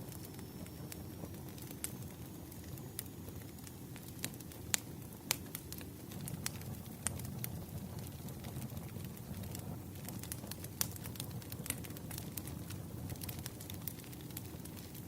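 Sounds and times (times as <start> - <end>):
campfire flame rumble: 0.0 - 15.0
wood crackling and popping: 0.0 - 15.0.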